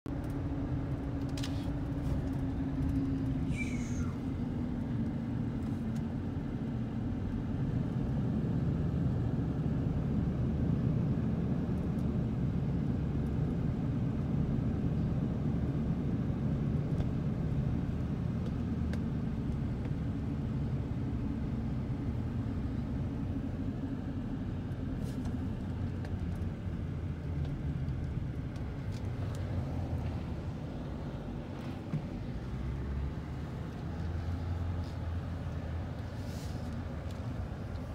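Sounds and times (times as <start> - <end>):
truck engine and road noise: 0.0 - 37.9.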